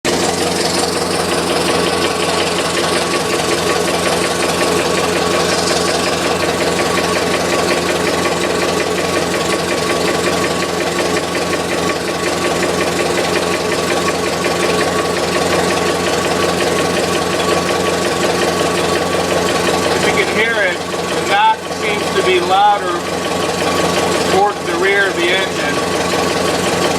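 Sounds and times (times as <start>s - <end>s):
car engine idling with ticking knock: 0.1s - 26.9s.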